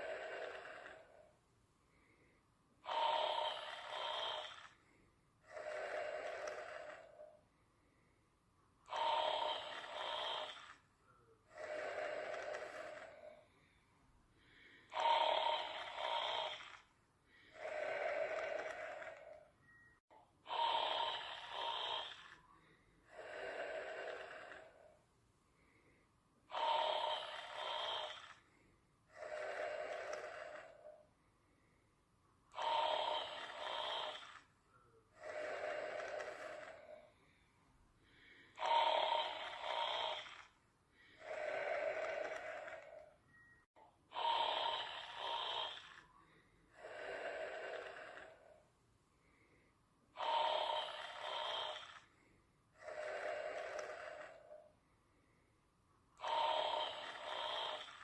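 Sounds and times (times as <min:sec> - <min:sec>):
person snoring: 0:00.0 - 0:01.3, 0:02.8 - 0:07.4, 0:08.8 - 0:13.8, 0:14.4 - 0:19.5, 0:20.4 - 0:25.0, 0:25.6 - 0:31.1, 0:32.5 - 0:37.4, 0:38.0 - 0:43.2, 0:44.1 - 0:54.7, 0:56.2 - 0:58.0.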